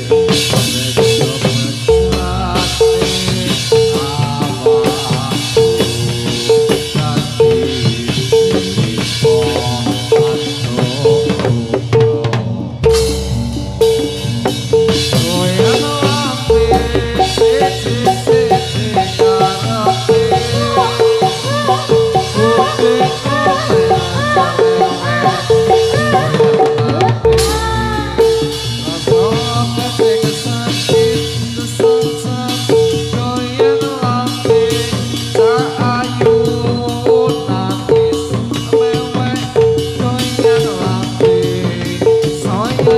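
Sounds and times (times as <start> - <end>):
drums: 0.0 - 42.9
gamelan ensemble music: 0.0 - 42.9.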